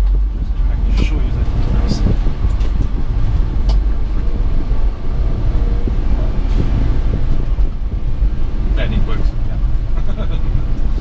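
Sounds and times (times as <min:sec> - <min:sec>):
road and tyre noise: 0:00.0 - 0:11.0
truck engine rumbling: 0:00.0 - 0:11.0.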